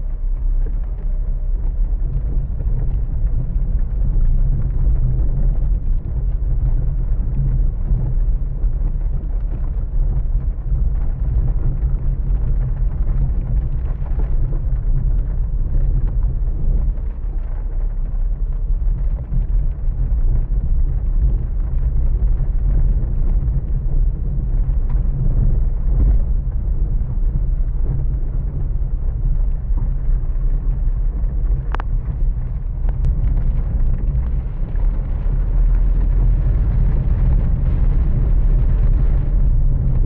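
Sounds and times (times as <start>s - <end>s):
storm wind buffeting microphone: 0.0s - 40.0s.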